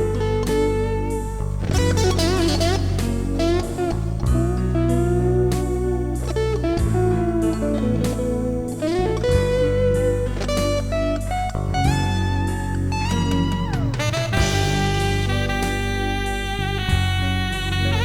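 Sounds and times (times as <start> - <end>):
electric blues band playing: 0.0 - 18.0
electric guitar solo: 0.0 - 18.0.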